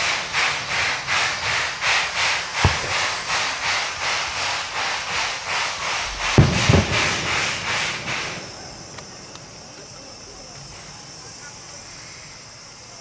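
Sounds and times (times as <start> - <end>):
fireworks booming: 0.0 - 13.0
steam locomotive panting: 0.0 - 13.0.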